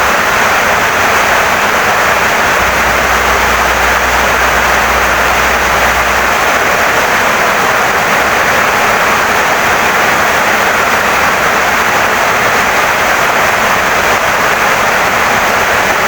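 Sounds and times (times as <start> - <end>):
heavy rain on a wooden house: 0.0 - 16.0.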